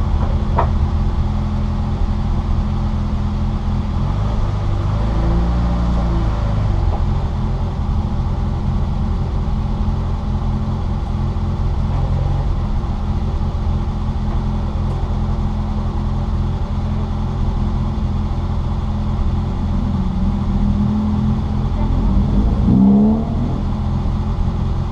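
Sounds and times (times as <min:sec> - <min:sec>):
car engine running: 0:00.0 - 0:24.9
road and wind noise: 0:00.0 - 0:24.9.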